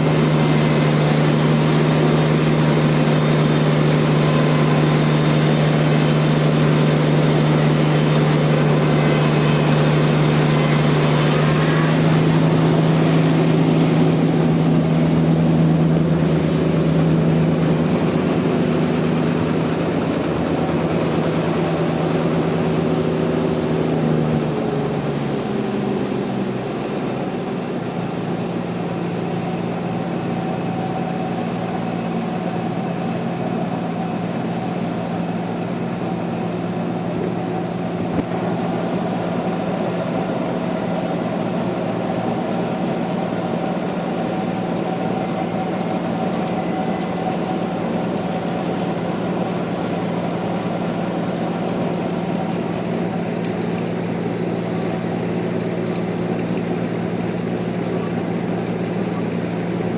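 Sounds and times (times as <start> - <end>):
sawmill machinery motor hum: 0.0 - 59.9.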